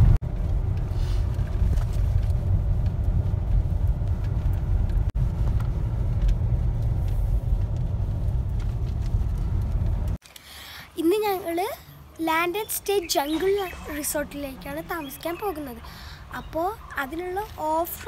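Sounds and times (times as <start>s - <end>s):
engine and road rumble inside vehicle: 0.0s - 10.3s, 10.9s - 18.0s.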